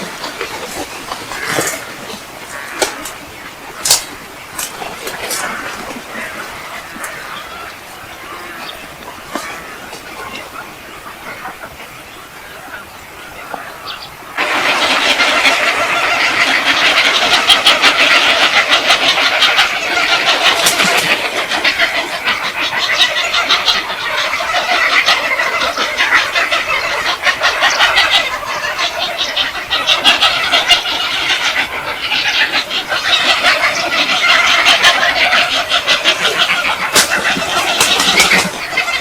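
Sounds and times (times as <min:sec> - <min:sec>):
flock of birds chattering: 0:00.0 - 0:39.0.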